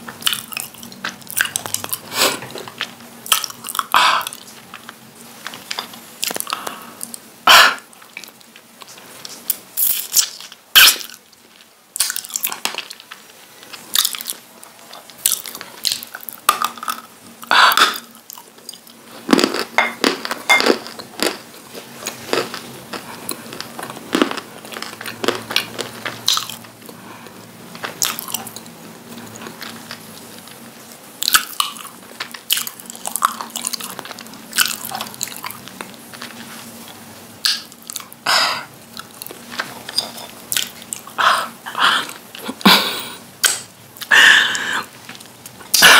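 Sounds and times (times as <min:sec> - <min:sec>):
chewing: 0:00.2 - 0:07.2, 0:07.8 - 0:30.6, 0:31.2 - 0:38.2, 0:38.9 - 0:42.6.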